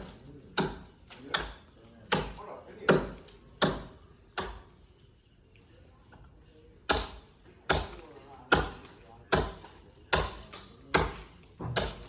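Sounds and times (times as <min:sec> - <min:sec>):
axe chopping wood: 0:00.0 - 0:04.7, 0:06.8 - 0:12.0.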